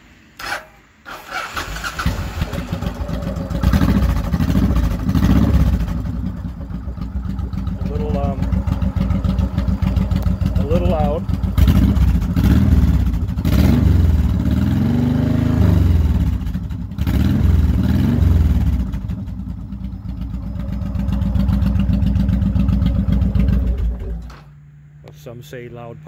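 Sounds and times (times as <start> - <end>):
motorcycle engine revving and idling: 0.4 - 25.1.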